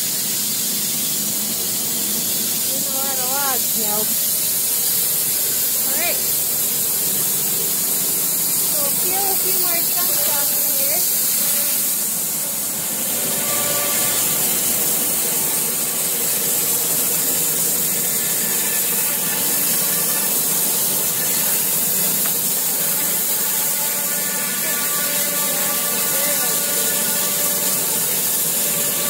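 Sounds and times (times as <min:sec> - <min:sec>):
band saw cutting log: 0:00.0 - 0:29.0.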